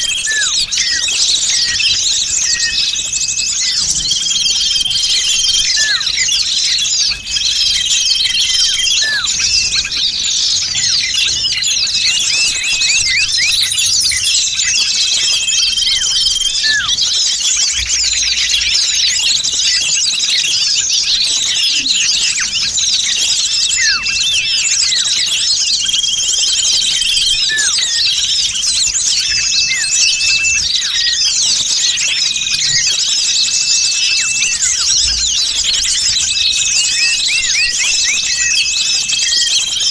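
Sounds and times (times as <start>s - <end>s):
held whistled notes: 0.0s - 20.4s, 21.5s - 39.8s
songbirds chirping and twittering: 0.0s - 39.9s.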